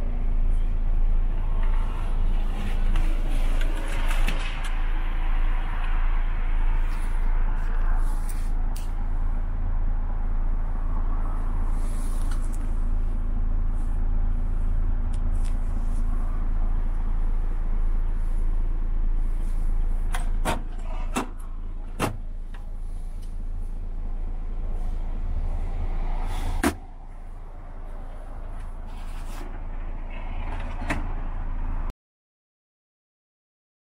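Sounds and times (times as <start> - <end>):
truck cab low hum: 0.0 - 31.9.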